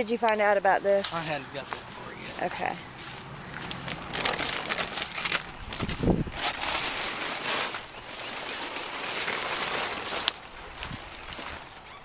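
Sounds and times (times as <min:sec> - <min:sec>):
crackles: 0:00.2 - 0:12.0
footsteps crunching: 0:00.2 - 0:12.0.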